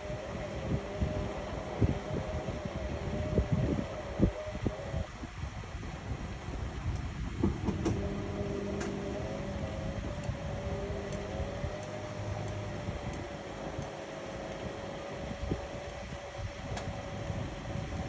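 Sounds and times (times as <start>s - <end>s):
low motor hum: 0.0s - 18.0s
washing machine whine: 0.0s - 18.0s.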